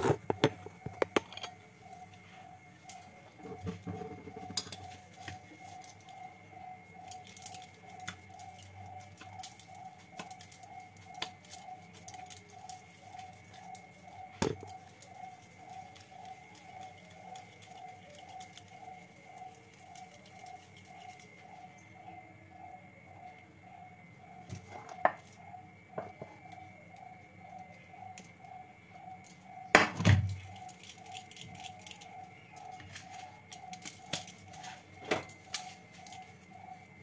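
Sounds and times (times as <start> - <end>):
faint wavering hum: 0.0 - 37.0.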